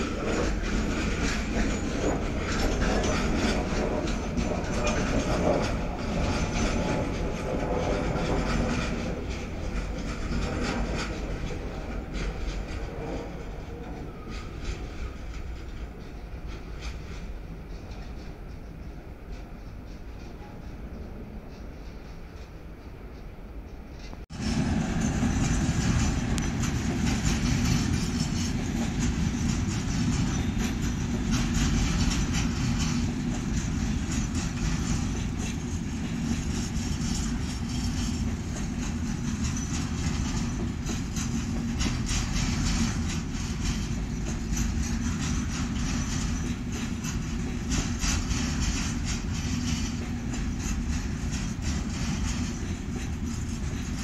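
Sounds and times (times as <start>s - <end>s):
freight train rumbling: 0.0s - 54.0s
wheels clattering on rails: 0.0s - 54.0s.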